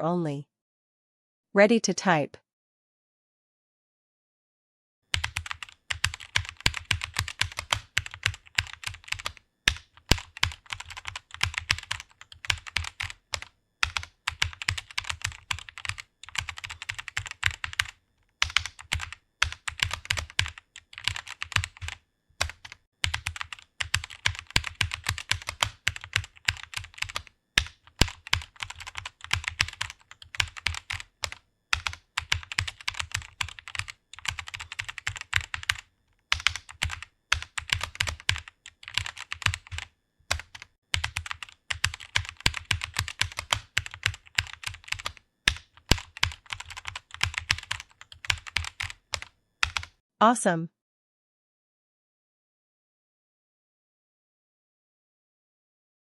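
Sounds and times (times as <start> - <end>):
keyboard typing: 5.1 - 50.0.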